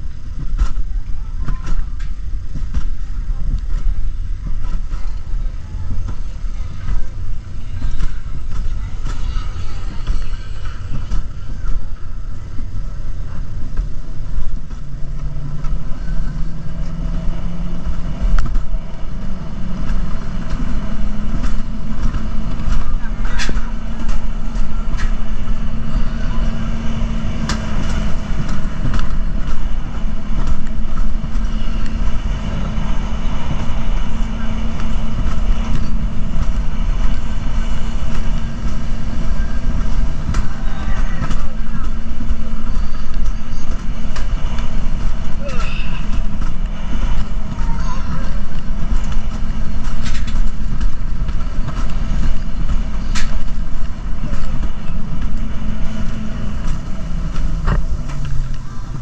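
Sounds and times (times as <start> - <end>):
coaster cart rumbling on rails: 0.0 - 59.0
sharp clacks of cart: 0.0 - 59.0
wind rushing over microphone: 0.0 - 59.0.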